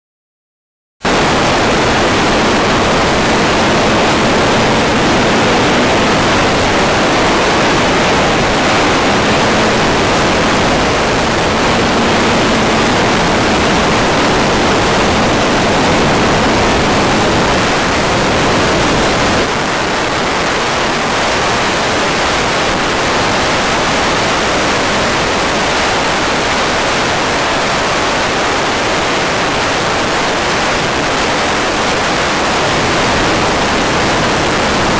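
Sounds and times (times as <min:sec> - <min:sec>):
radio static hiss: 0:01.1 - 0:34.9.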